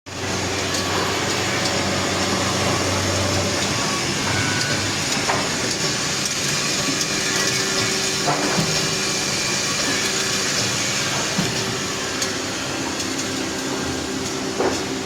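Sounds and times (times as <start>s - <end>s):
drilling machine running: 0.1s - 15.0s.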